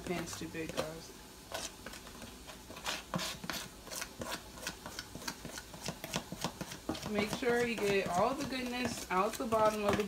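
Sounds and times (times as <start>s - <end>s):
utensil scraping batter from container: 0.0s - 10.0s.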